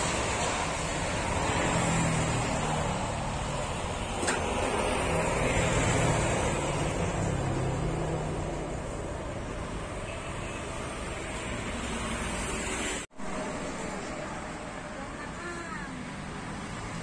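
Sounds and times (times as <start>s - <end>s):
motorcycles passing: 0.0s - 17.0s
road traffic roar: 0.0s - 17.0s.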